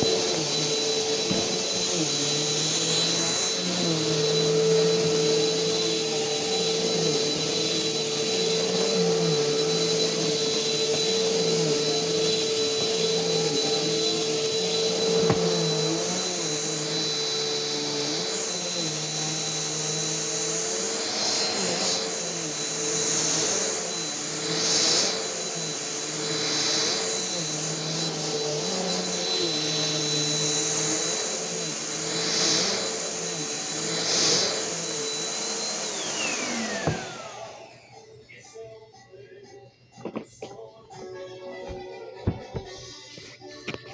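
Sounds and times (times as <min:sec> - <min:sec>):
vacuum cleaner running: 0:00.0 - 0:39.2.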